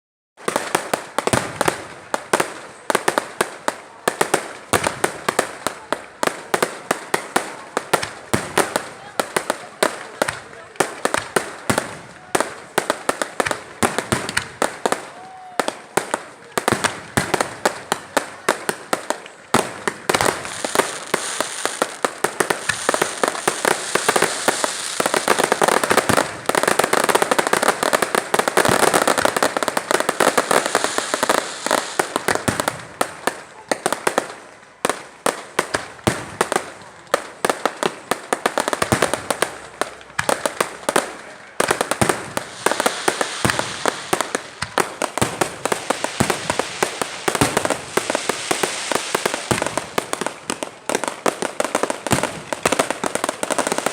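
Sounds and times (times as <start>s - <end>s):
firecrackers going off: 0.4s - 53.9s.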